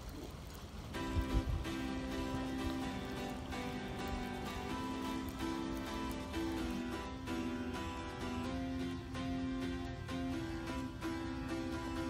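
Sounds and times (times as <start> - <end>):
instrumental background music: 1.0 - 12.0.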